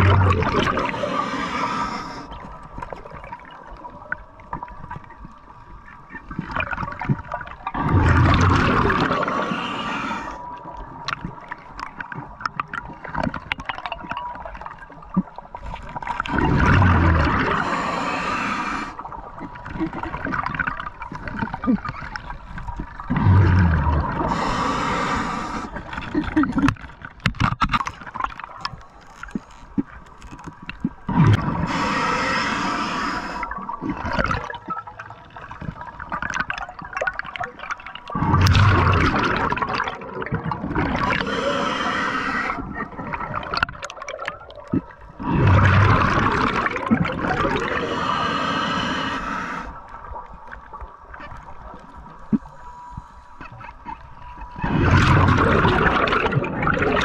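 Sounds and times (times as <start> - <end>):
exhaled bubbles underwater: 0.0 - 28.7, 29.3 - 57.0.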